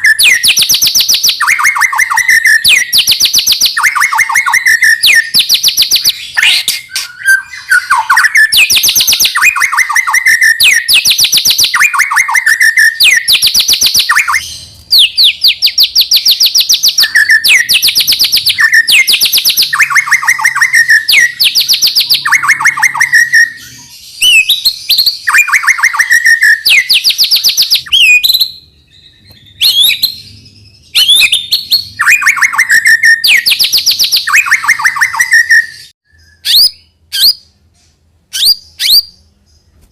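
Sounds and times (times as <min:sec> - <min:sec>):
bird singing trilled phrases: 0:00.0 - 0:37.6, 0:38.3 - 0:39.8.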